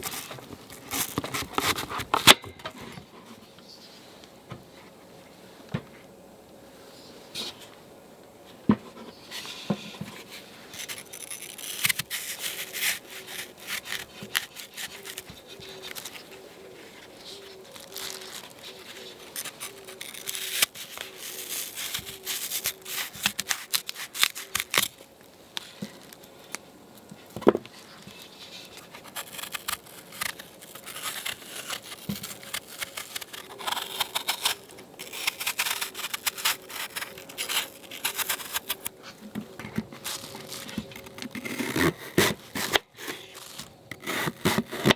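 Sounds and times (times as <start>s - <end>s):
rustling and crinkling: 0.0s - 6.1s, 6.8s - 44.9s.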